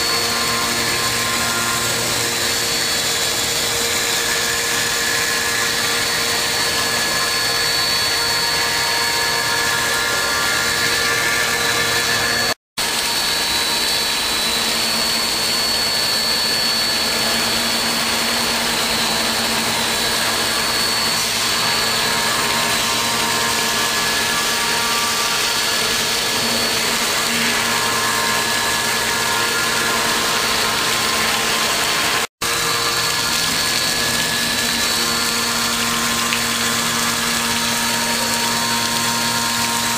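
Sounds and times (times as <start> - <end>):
machine cutting with whining spindle: 0.0 - 39.9.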